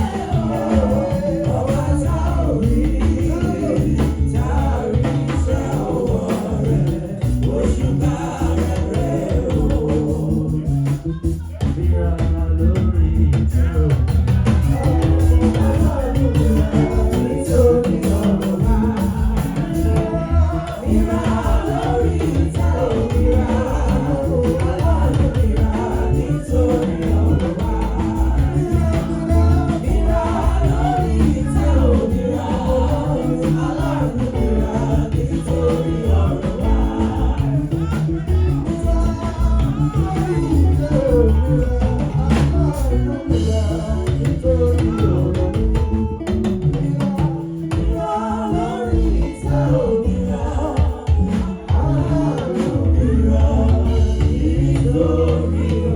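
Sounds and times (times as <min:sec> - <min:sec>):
bass and drums: 0:00.0 - 0:55.9
group singing: 0:00.0 - 0:55.9.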